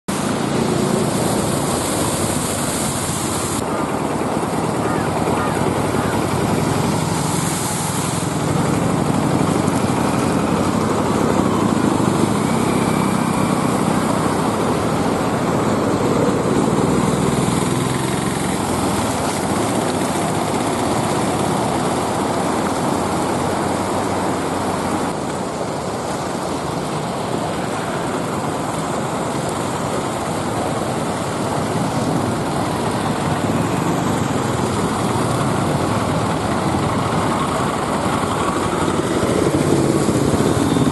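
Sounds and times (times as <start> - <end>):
auto rickshaw engines running: 0.0 - 40.9
water splashing around wheels: 0.1 - 40.9.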